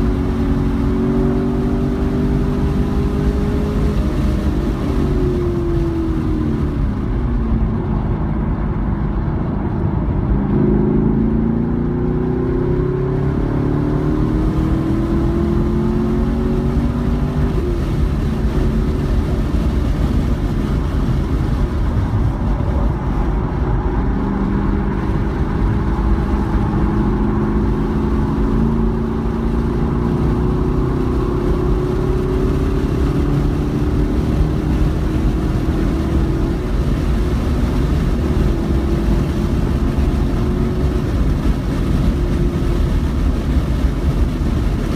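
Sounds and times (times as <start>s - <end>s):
car engine at full throttle: 0.0s - 44.9s
wind and road noise: 0.0s - 44.9s.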